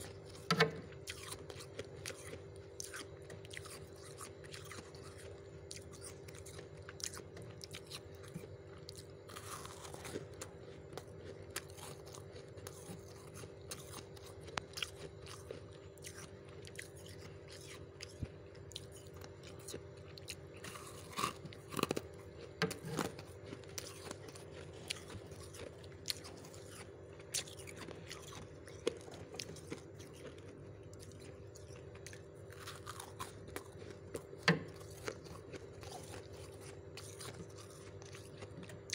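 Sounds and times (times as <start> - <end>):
frost crunching when chewed: 0.0 - 38.9
steady low hum: 0.0 - 38.9.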